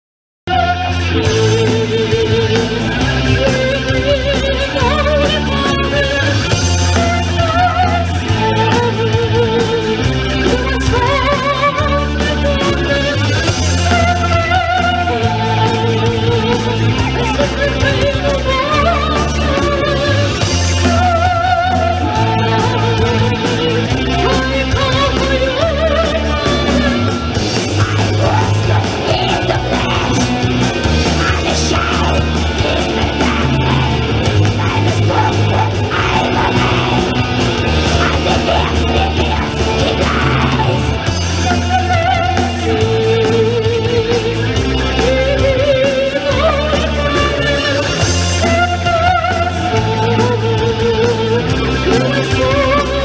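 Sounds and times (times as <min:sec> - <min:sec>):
black metal band playing live: 0:00.5 - 0:53.0.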